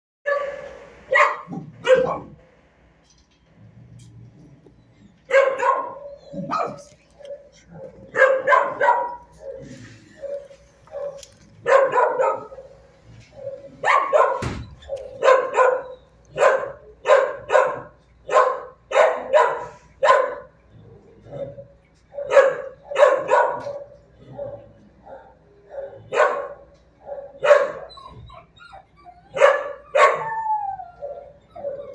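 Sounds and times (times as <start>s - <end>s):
dogs barking: 0.3s - 2.4s, 5.2s - 20.6s, 21.2s - 31.9s.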